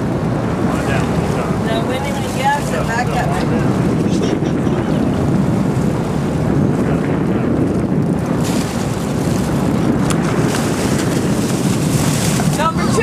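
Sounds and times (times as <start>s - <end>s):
boat engine rumble: 0.0s - 13.0s
water rushing along hull: 0.0s - 13.0s
wind buffeting microphone: 0.0s - 13.0s.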